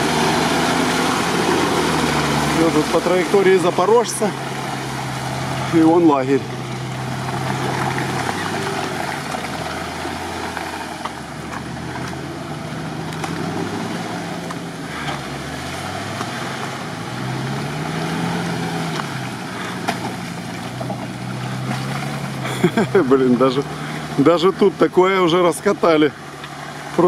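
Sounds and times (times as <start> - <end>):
off-road vehicle engine: 0.0 - 27.0.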